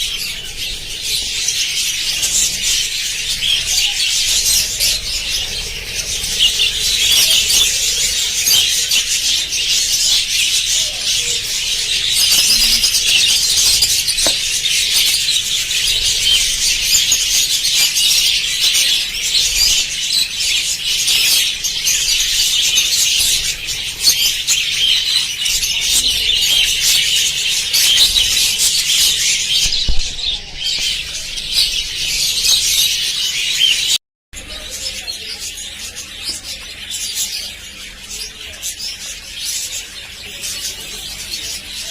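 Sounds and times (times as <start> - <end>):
budgerigars chattering: 0.0 - 41.9.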